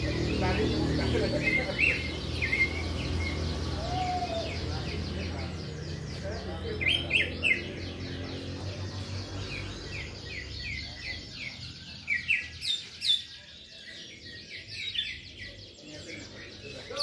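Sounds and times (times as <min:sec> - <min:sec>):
canaries singing: 0:00.0 - 0:17.0.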